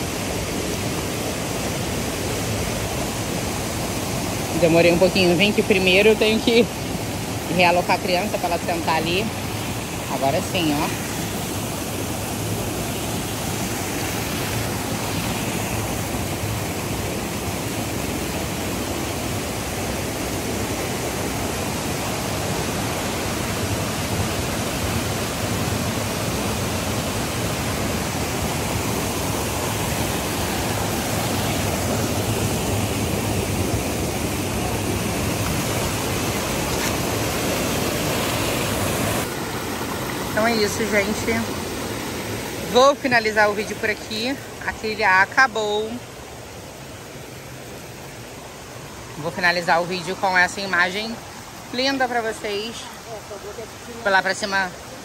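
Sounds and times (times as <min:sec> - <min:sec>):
water rushing over rocks: 0:00.0 - 0:55.0.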